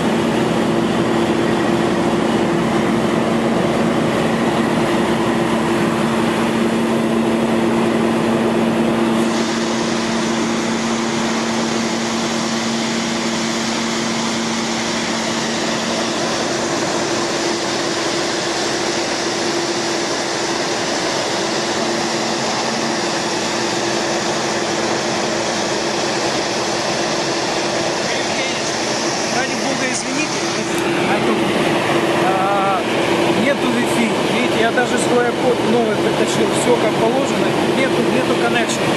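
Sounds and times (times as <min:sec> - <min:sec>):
drill rig running: 0:00.0 - 0:38.9.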